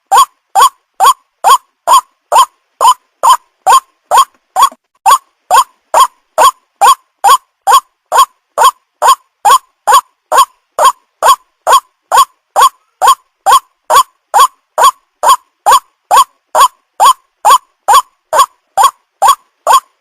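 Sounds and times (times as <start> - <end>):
waterhen harsh call: 0.0 - 19.9.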